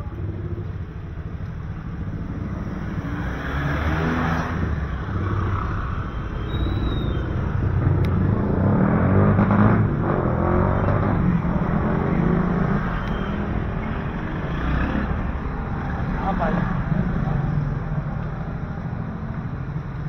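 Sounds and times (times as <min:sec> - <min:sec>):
motorcycle and car engines in traffic: 0:00.0 - 0:20.0
motorcycles passing close by: 0:00.0 - 0:20.0.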